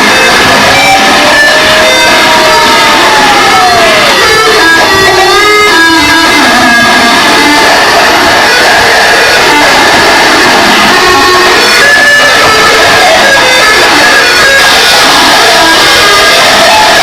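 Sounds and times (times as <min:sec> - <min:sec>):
distorted noise music: 0:00.0 - 0:17.0
sliding pitched tones: 0:00.0 - 0:17.0.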